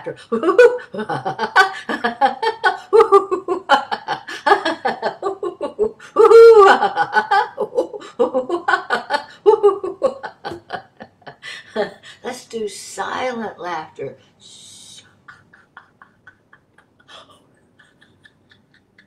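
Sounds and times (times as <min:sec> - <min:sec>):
woman laughing: 0:00.2 - 0:12.0, 0:14.5 - 0:19.0.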